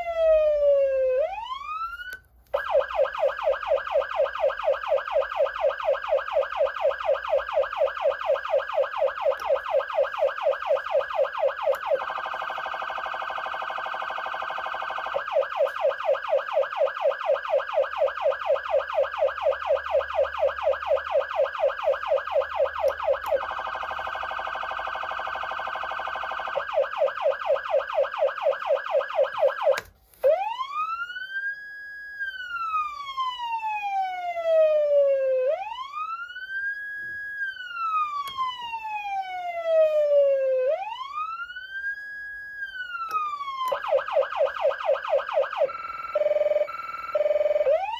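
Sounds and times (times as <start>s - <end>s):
electronic siren sweeping: 0.0s - 47.9s
fast pulsing siren tone: 0.0s - 47.9s
manual siren rising and falling: 0.0s - 47.9s.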